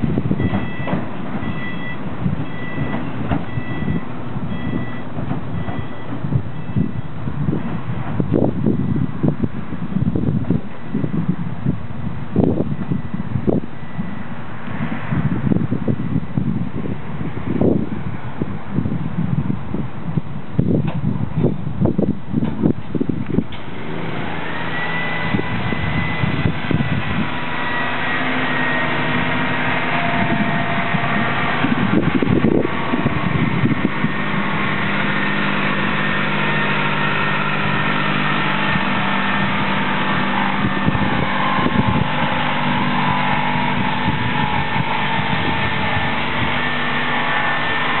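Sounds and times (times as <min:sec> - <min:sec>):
electric tram motor whine: 0:00.0 - 0:21.1, 0:21.7 - 0:48.0
tram running gear rumble: 0:00.0 - 0:48.0.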